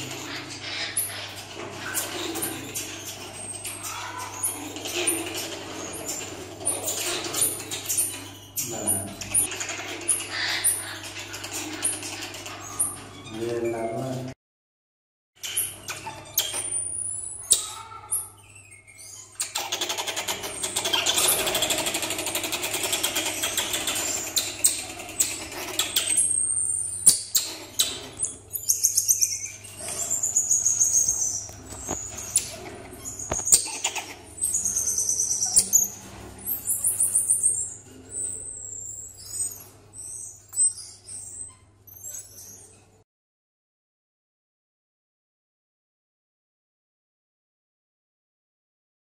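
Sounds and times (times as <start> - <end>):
marmosets chirping and trilling: 0.0 - 14.4, 15.4 - 43.0
scratching and rustling on cage: 0.0 - 14.4, 15.4 - 43.0.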